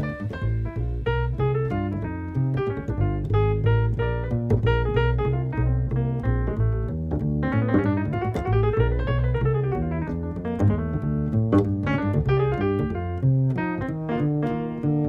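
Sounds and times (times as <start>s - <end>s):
bass: 0.0s - 15.0s
jazz piano solo: 0.0s - 15.0s.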